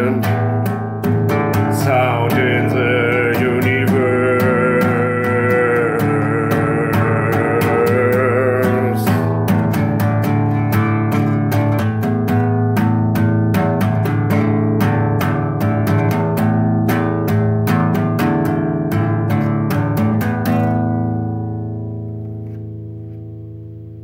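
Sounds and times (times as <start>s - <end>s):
guitar plucking notes: 0.0s - 24.0s.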